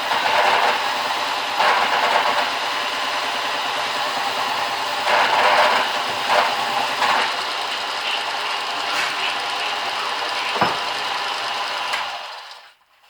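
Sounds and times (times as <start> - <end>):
belt sander running: 0.0 - 12.7.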